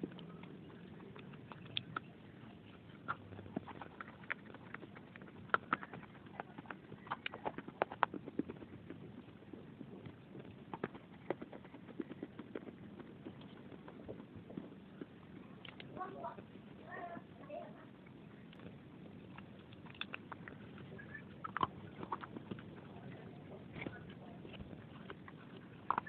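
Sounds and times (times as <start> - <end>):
clay being chewed with crunches: 0.0 - 26.0.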